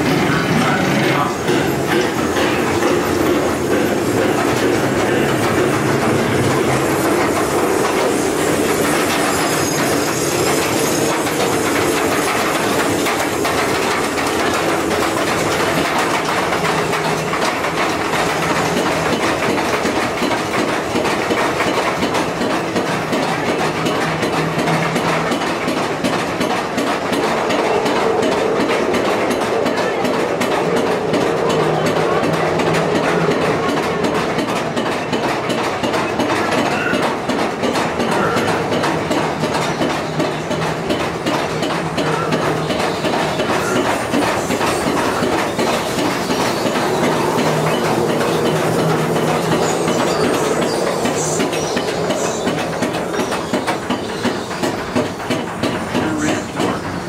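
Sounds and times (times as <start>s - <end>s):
ride cars running along track: 0.0s - 57.0s.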